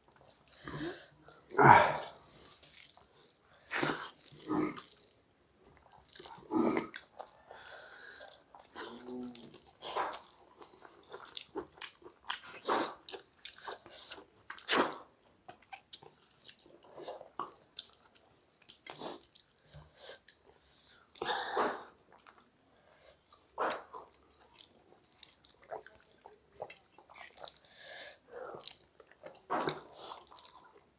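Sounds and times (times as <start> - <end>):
people chewing and smacking: 0.0 - 30.9.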